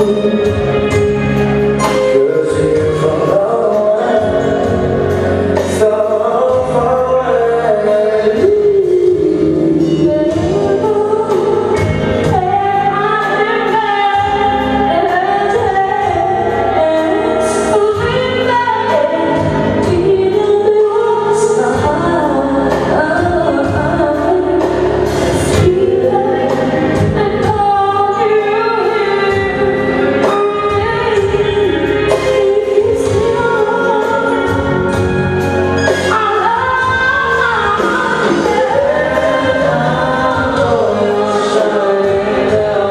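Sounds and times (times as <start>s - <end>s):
live band playing a song: 0.0s - 42.9s.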